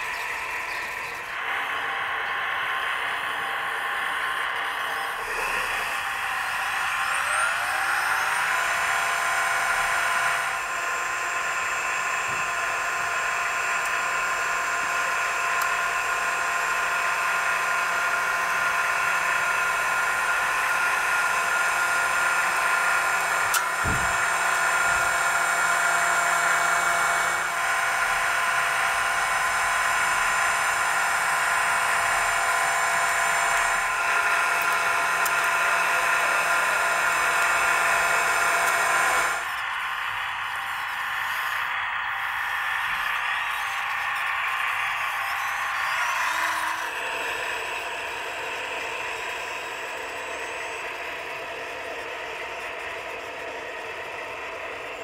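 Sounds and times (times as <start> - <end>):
electric motor whine: 0.0 - 55.0.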